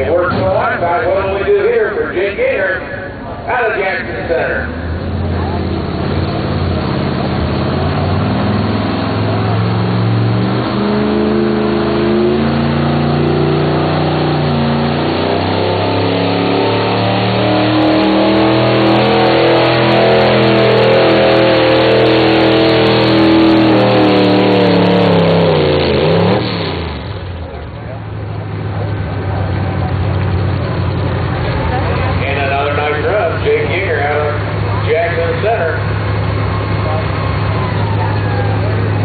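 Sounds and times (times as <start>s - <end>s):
truck engine revving at full throttle: 0.0s - 39.0s.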